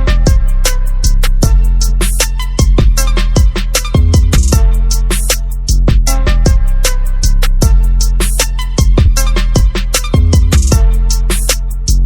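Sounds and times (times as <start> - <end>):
hip-hop beat with heavy bass: 0.0 - 12.0.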